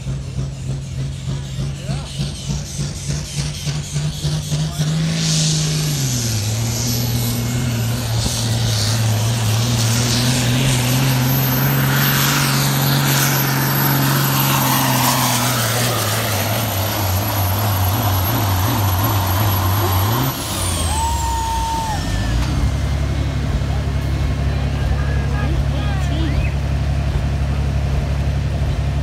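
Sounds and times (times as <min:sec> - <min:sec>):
high whine: 0:00.0 - 0:26.8
truck diesel engine at full throttle: 0:00.0 - 0:29.0.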